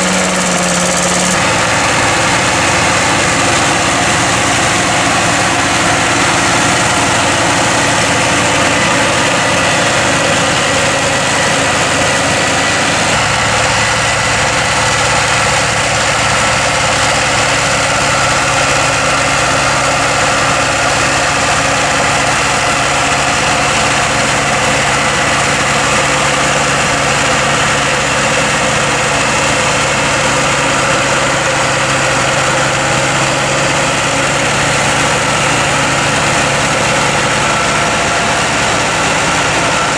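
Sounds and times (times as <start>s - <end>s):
forage harvester working: 0.0s - 39.9s
tractor diesel engine running: 0.0s - 39.9s.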